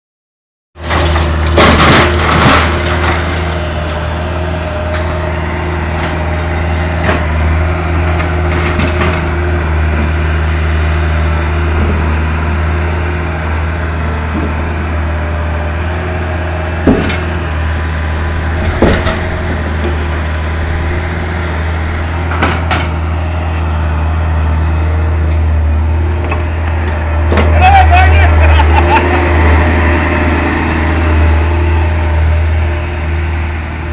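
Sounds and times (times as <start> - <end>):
diesel engine running: 0.8 - 33.9.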